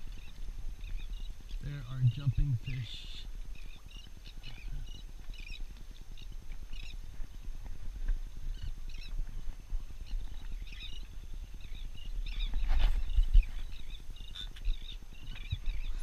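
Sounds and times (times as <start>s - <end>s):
seabirds chirping: 0.0s - 7.5s, 8.5s - 9.4s, 10.0s - 16.0s
wind buffeting microphone: 0.0s - 16.0s.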